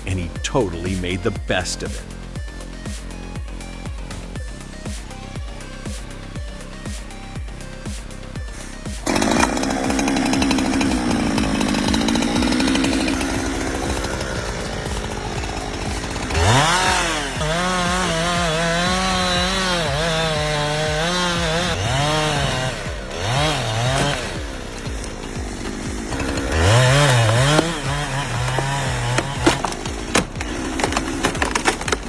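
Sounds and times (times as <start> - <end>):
chainsaw running and cutting: 0.0 - 32.0.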